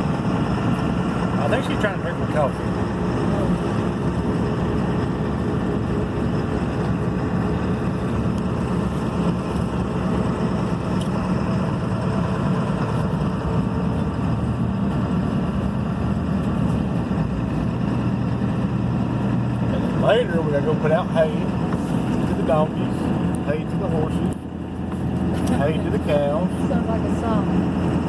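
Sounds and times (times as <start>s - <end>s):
road and engine rumble in cab: 0.0s - 28.0s.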